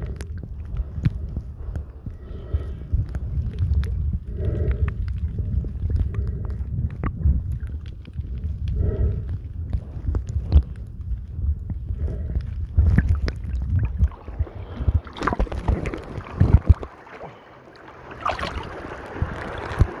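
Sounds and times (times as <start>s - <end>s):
muffled underwater rumble: 0.0s - 20.0s
water splashing and sloshing: 0.0s - 20.0s.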